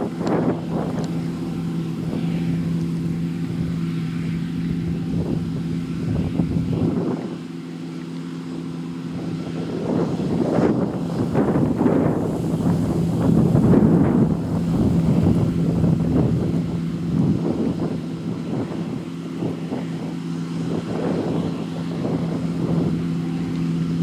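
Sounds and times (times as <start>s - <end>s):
wind gusts on microphone: 0.0s - 7.9s, 8.5s - 24.0s
combine harvester engine hum: 0.0s - 24.0s.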